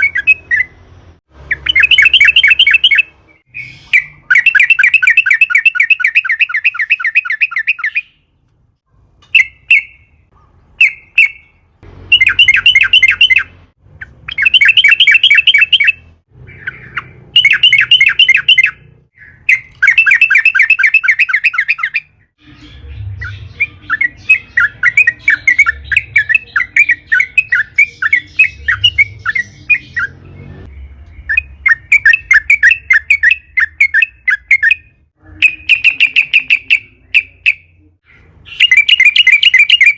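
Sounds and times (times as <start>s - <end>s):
bird singing chattering trills: 1.4s - 8.2s, 10.8s - 39.9s.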